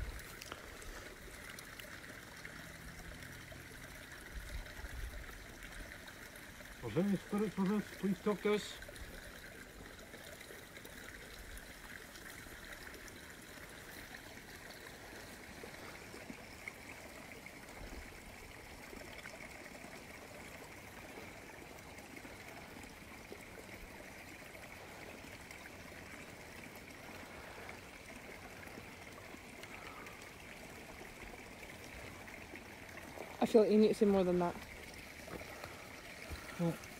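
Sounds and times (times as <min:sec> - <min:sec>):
trickle of running water: 0:00.0 - 0:36.9.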